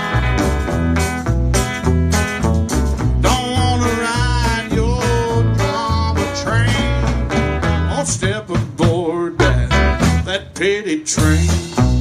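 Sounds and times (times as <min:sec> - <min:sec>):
live band playing country rock: 0:00.0 - 0:12.0.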